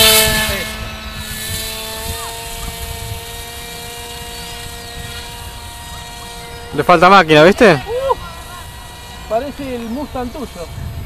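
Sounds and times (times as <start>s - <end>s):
electric motor and propeller whining: 0.0s - 11.0s
wind rumbling on microphone: 0.0s - 11.0s.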